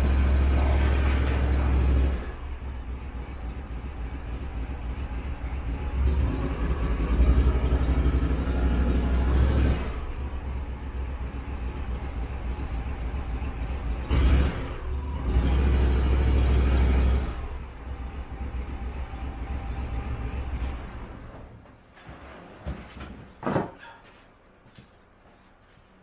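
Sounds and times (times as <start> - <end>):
engine revving: 0.0 - 21.3.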